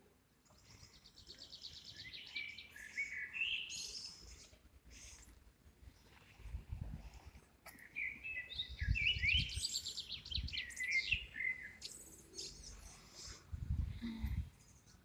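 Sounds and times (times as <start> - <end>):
songbird chirps and trills: 0.1 - 15.0.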